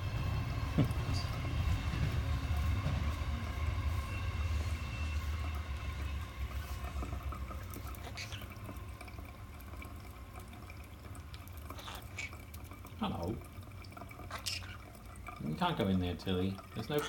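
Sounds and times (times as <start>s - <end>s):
water running and trickling: 0.0s - 17.0s.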